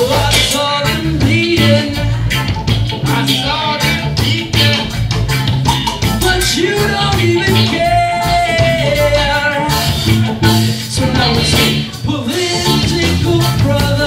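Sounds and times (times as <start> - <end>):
man singing: 0.0 - 5.2, 6.0 - 14.0
live reggae band playing: 0.0 - 14.0.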